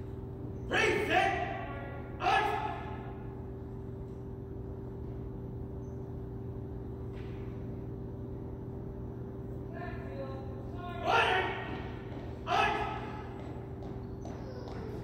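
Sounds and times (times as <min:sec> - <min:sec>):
low hum of room tone: 0:00.0 - 0:15.0.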